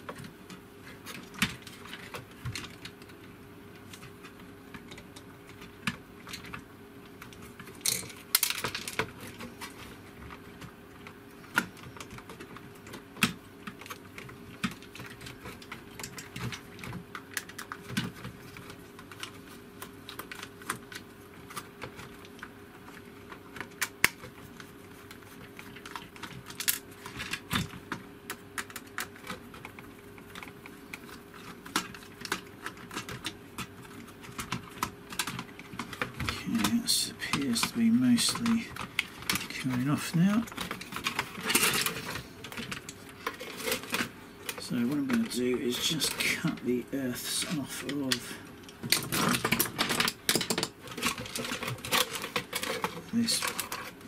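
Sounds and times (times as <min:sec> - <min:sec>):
plastic parts clicking and rattling: 0:00.0 - 0:06.6, 0:07.2 - 0:54.0
faint steady hum: 0:00.0 - 0:54.0.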